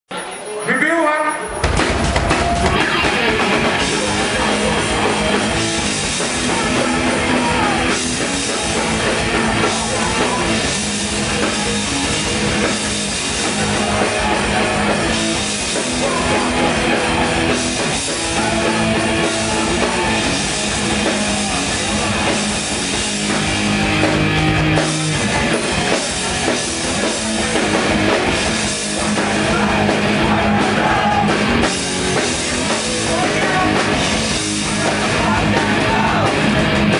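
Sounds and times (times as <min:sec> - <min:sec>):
punk band playing live: 0:01.4 - 0:36.9.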